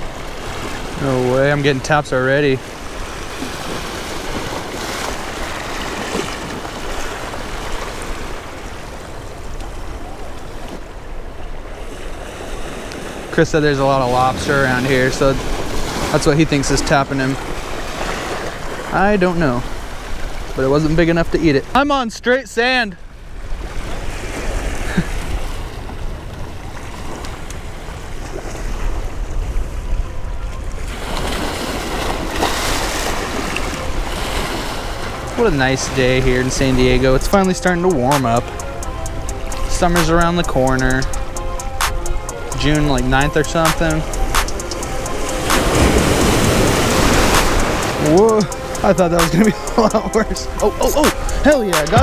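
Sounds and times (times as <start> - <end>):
surf washing over rocks: 0.0 - 29.3, 30.8 - 52.0.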